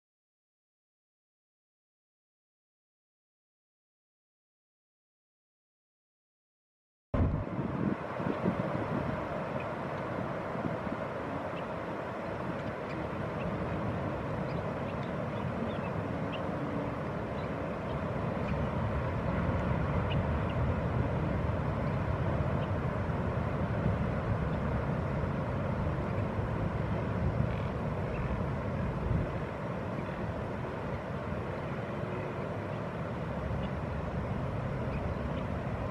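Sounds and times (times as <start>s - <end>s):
outdoor background rumble: 7.2s - 35.9s.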